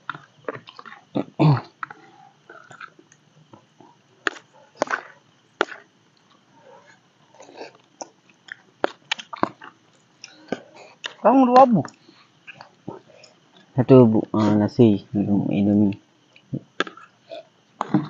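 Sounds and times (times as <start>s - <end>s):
chewing: 0.0s - 11.2s, 11.8s - 13.8s, 16.3s - 18.0s.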